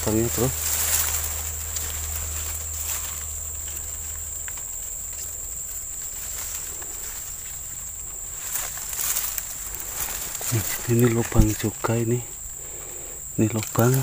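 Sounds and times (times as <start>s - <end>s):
grass rustling: 0.0s - 14.0s
insects buzzing: 0.0s - 14.0s
small ticks: 0.0s - 14.0s.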